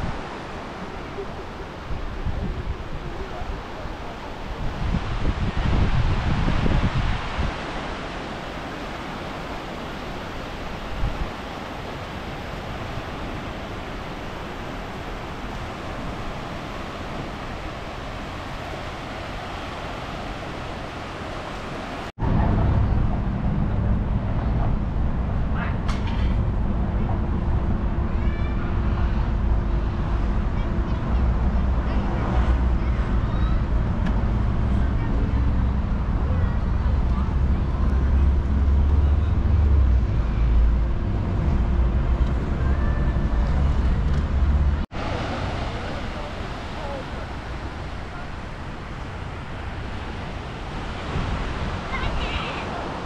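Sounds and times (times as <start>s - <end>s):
waves washing onto beach: 0.0s - 24.3s, 25.0s - 53.0s
street traffic rumble: 0.0s - 53.0s.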